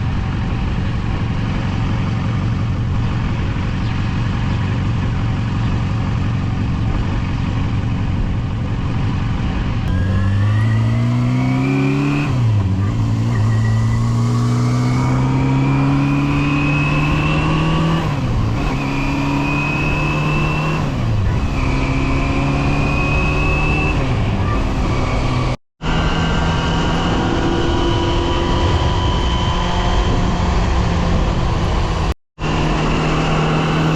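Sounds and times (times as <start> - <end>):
motorcycle engine accelerating: 0.0 - 33.9.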